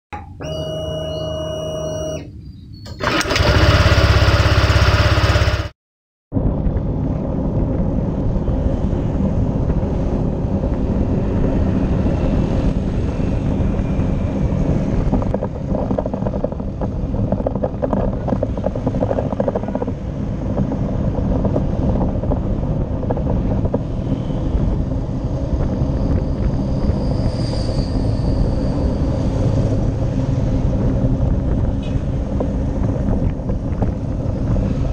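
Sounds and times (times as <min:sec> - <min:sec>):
low engine hum: 0:06.3 - 0:34.9
wind on microphone: 0:06.3 - 0:34.9.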